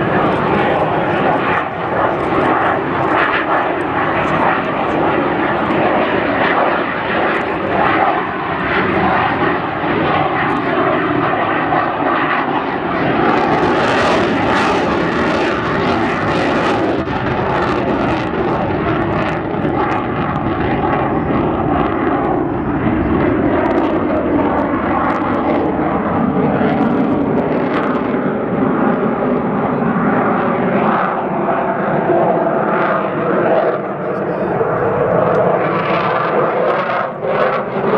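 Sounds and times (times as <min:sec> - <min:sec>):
fighter jet engine whine: 0:00.0 - 0:37.9.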